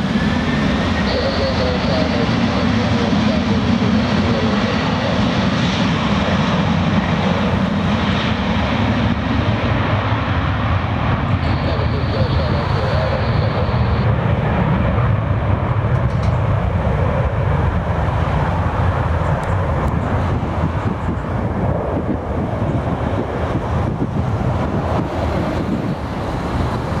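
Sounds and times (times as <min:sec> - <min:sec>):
jet airliner taking off: 0:00.0 - 0:27.0.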